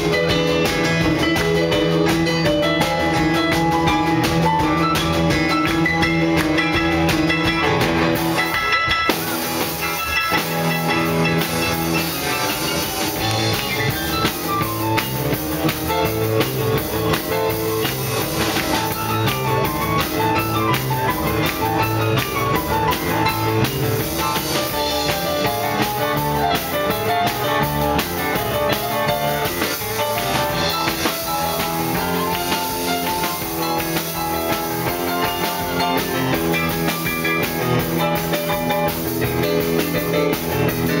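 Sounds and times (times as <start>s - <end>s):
live rock and roll band: 0.0s - 41.0s
steady drum beat: 0.0s - 41.0s.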